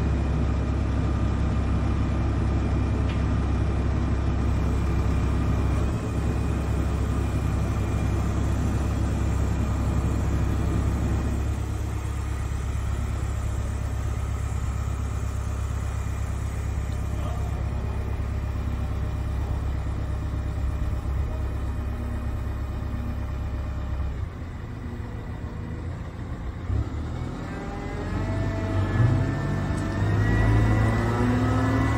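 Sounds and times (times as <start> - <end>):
telehandler engine rumbling: 0.0 - 31.9.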